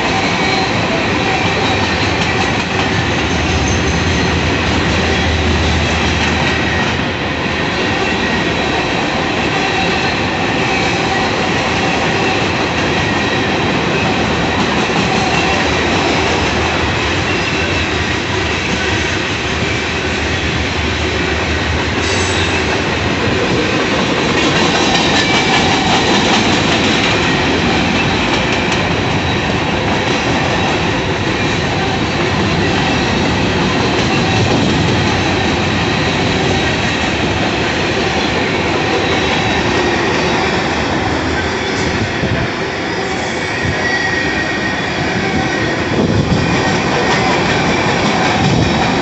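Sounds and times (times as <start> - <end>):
train clatter: 0.0 - 49.0
train wheels rumbling on rail: 0.0 - 49.0.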